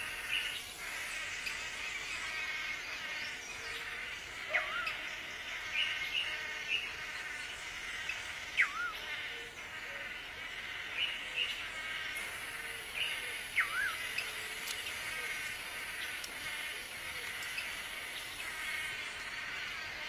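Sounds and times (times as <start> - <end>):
birds calling buzzy nasal notes: 0.0 - 20.0.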